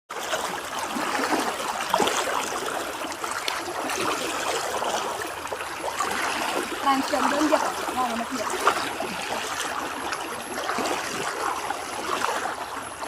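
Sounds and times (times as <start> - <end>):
floodwater trickling and gurgling: 0.1 - 13.0
small water splashes: 0.1 - 13.0.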